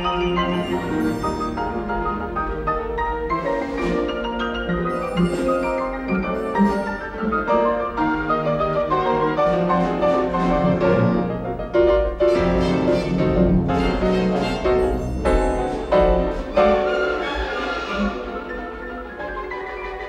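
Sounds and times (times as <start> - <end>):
piano and orchestra playing: 0.0 - 20.0
strong piano chords: 0.0 - 20.0.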